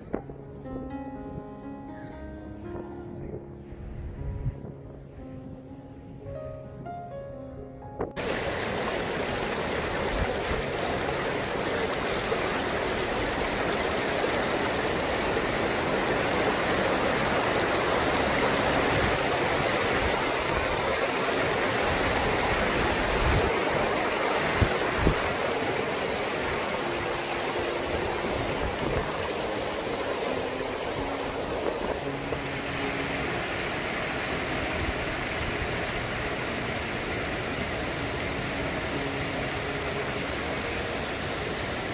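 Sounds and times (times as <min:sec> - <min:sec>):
water rushing over stone weir: 0:08.2 - 0:41.9
waterfall cascading into pool: 0:08.2 - 0:41.9.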